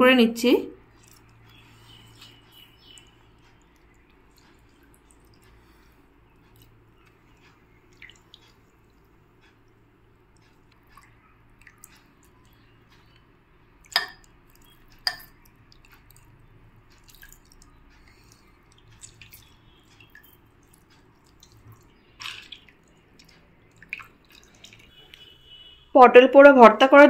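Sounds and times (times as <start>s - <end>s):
water dripping into a bowl: 0.7s - 25.8s.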